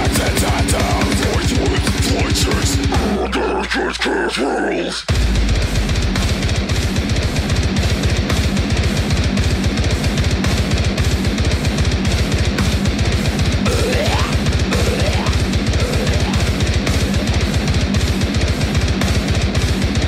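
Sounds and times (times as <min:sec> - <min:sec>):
heavy metal music: 0:00.0 - 0:20.0.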